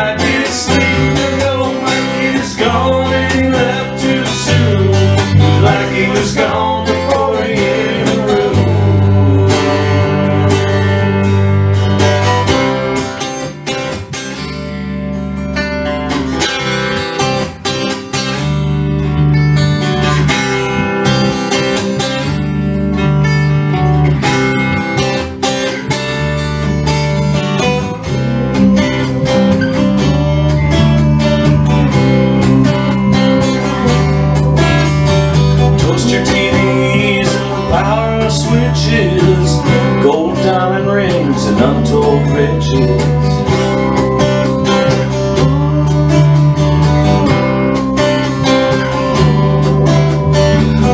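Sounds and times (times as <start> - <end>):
acoustic guitar strumming: 0.0 - 50.9
sustained bass notes: 0.0 - 50.9.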